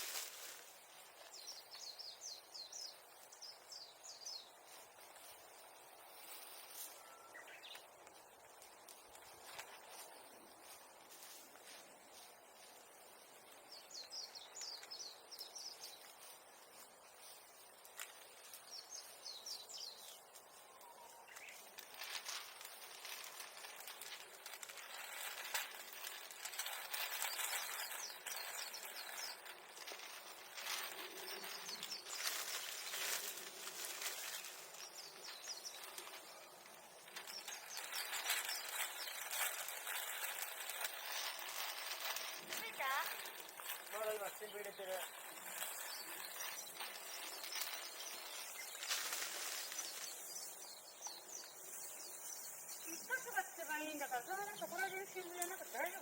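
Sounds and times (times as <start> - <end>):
dry brush rustling and crackling: 0.0 - 56.0
songbird chirping trills: 1.2 - 56.0.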